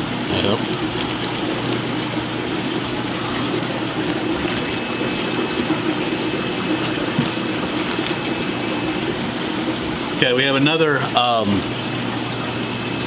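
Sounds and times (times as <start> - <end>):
aquarium filter hum: 0.0 - 13.0
running water: 0.0 - 13.0.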